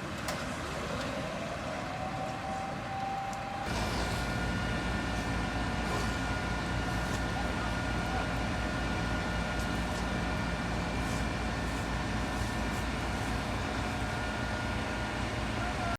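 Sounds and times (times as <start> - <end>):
faint steady whining tones: 0.1 - 15.9
boat engine droning: 0.6 - 15.9.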